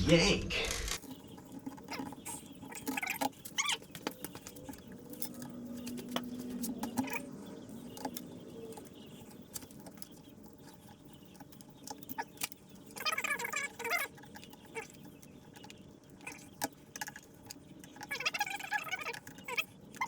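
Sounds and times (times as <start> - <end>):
small squeaks: 0.6 - 20.0.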